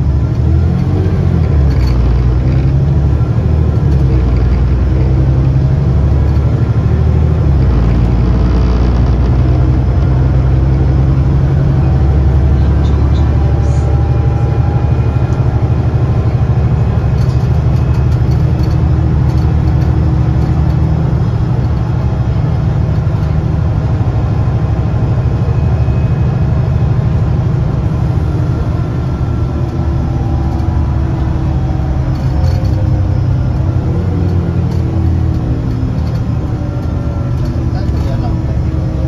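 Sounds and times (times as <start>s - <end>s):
diesel bus engine pulling under load: 0.0s - 39.0s.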